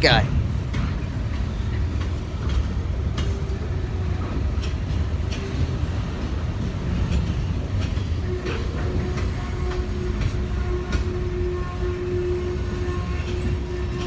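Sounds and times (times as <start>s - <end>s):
clicks and clanks of train: 0.0s - 14.0s
train cars rumbling on track: 0.0s - 14.0s.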